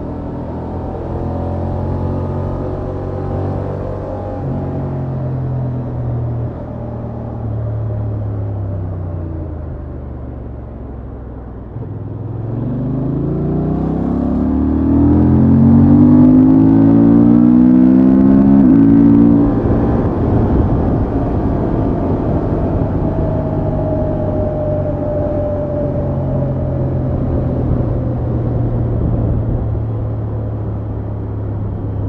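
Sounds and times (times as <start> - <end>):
motorcycle engine accelerating: 0.0 - 32.0
wind and road noise: 0.0 - 32.0.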